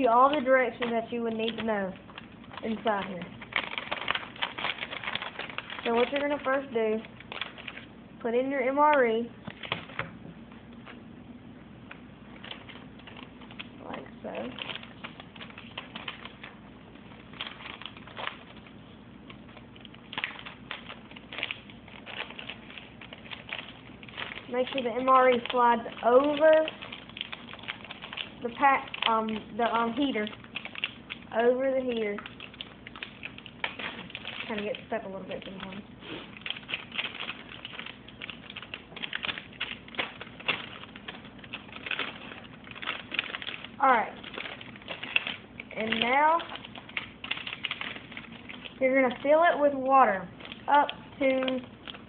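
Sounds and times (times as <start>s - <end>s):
plastic packaging crinkling: 0.0s - 11.1s, 11.7s - 52.0s.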